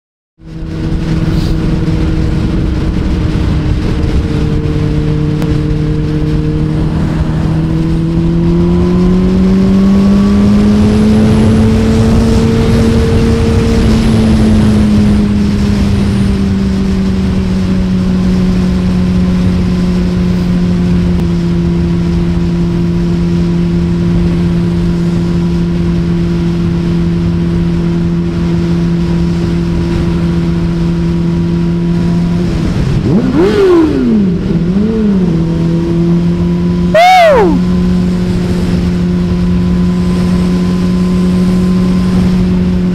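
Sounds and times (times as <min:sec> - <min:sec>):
motorcycle engine cruising: 0:00.4 - 0:42.9
wind rush: 0:00.4 - 0:42.9.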